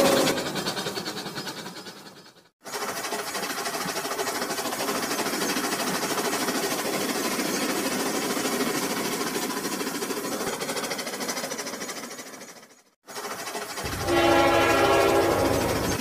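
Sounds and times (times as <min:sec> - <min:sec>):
plastic wheels rattling on track: 0:00.0 - 0:16.0
toy train motors buzzing: 0:00.0 - 0:16.0.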